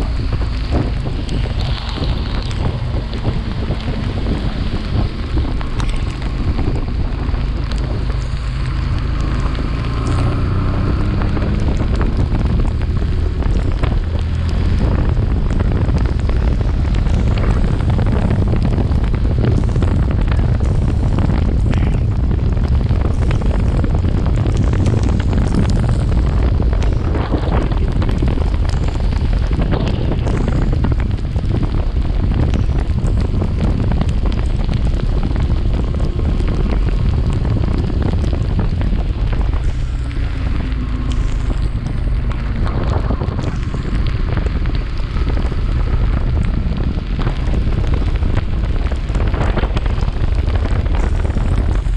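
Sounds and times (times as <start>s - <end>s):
road noise: 0.0s - 51.9s
wind buffeting microphone: 0.0s - 51.9s.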